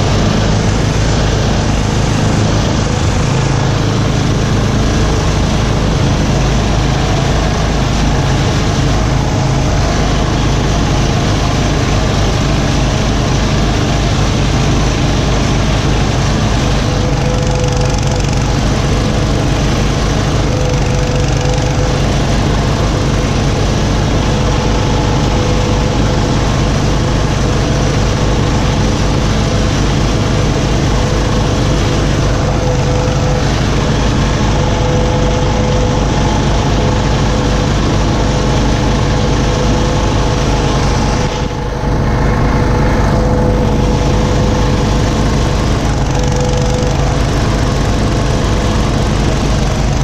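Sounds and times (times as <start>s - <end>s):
small tractor engine running: 0.0s - 50.0s.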